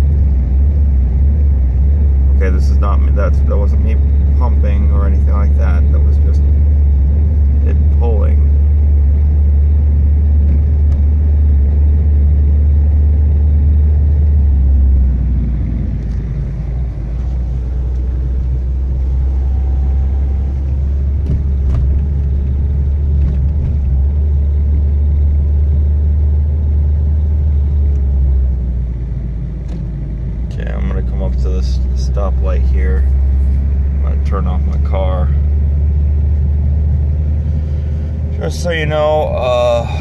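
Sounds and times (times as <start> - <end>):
car engine drone inside cabin: 0.0 - 40.0.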